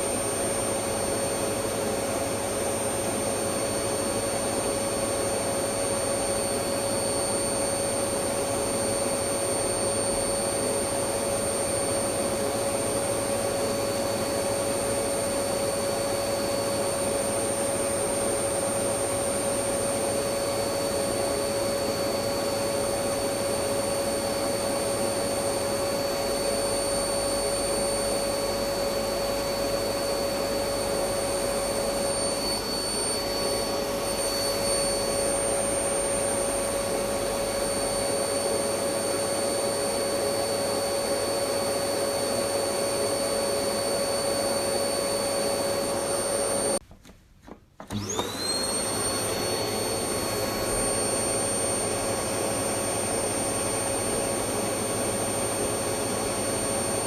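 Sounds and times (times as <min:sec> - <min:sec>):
vacuum cleaner running: 0:00.0 - 0:46.8, 0:47.5 - 0:57.0.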